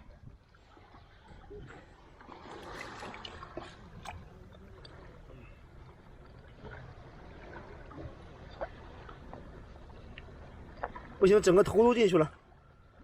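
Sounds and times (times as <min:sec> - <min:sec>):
faint water sloshing and trickling: 0:00.0 - 0:13.0.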